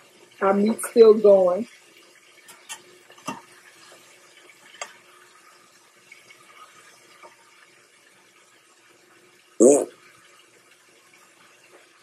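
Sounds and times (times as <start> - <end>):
patties sizzling in hot oil: 0.0 - 12.0.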